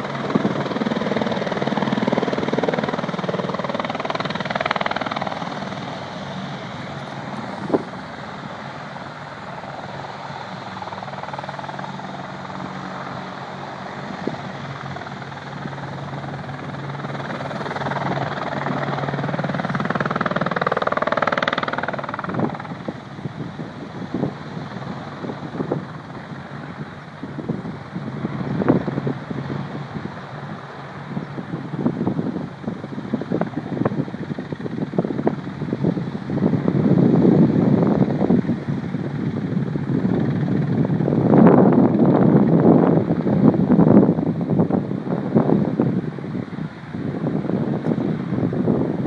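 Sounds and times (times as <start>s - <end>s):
helicopter rotors and engines humming: 0.0s - 49.0s.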